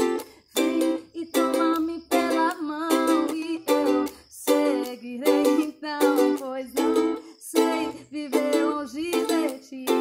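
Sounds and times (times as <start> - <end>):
ukulele strumming: 0.0 - 10.0.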